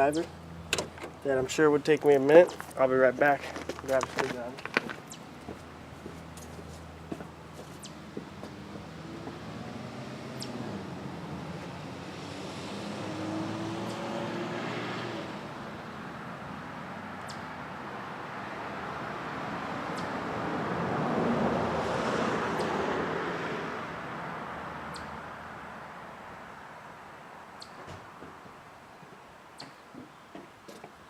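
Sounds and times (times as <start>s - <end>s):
vehicle passing: 0.0s - 27.2s.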